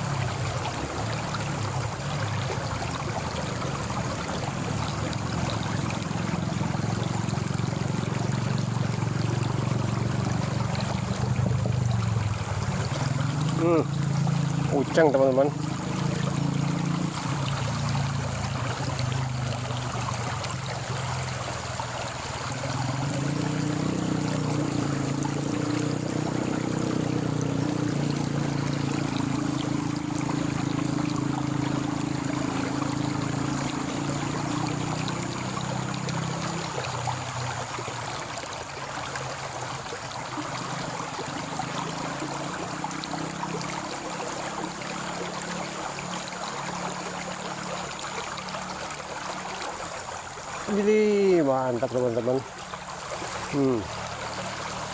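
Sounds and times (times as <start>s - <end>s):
stream water running: 0.0s - 54.9s.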